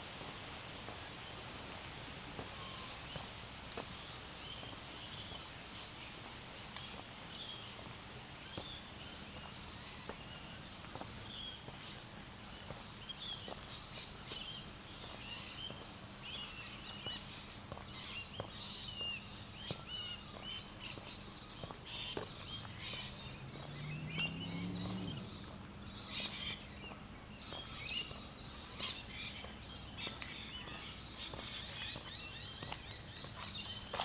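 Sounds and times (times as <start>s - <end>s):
faint footsteps on a path: 0.0s - 34.0s
small birds chirping: 2.4s - 34.0s.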